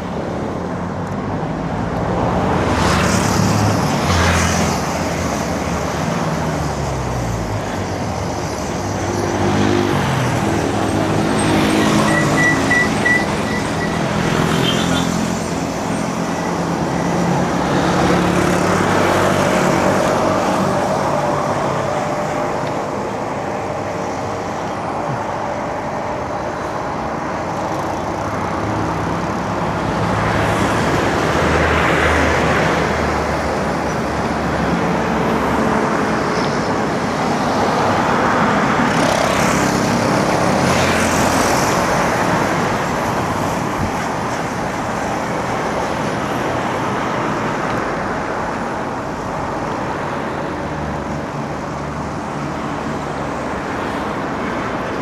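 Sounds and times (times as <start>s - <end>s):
cars passing by: 0.0s - 55.0s.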